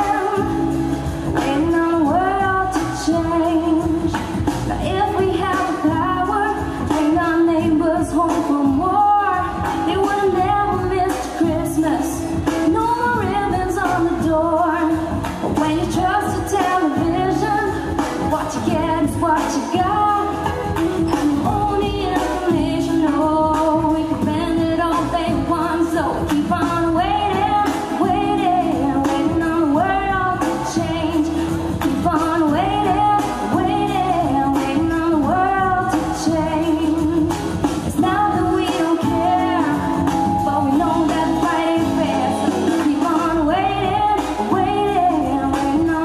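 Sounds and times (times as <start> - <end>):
musical accompaniment: 0.0 - 46.0
woman singing into a microphone: 0.0 - 46.0.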